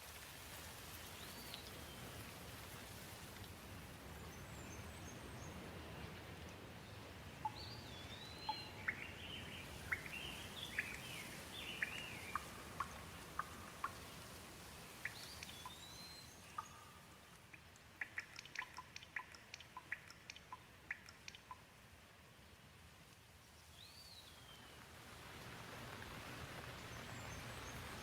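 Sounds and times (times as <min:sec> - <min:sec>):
gentle rain hiss: 0:00.0 - 0:28.0.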